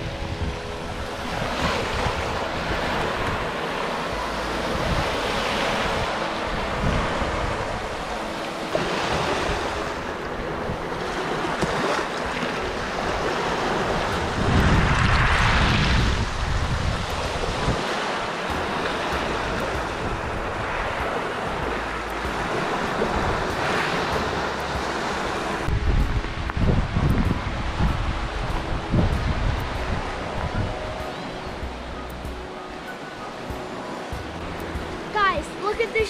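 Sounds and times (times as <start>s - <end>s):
waves washing onto beach: 0.0s - 36.0s
wind on microphone: 0.0s - 36.0s.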